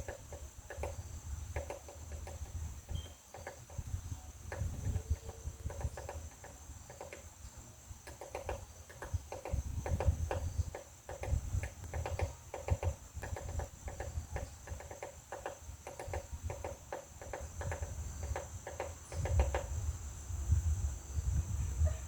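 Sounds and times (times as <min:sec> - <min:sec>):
woodpecker tapping on wood: 0:00.0 - 0:07.4, 0:08.0 - 0:19.8.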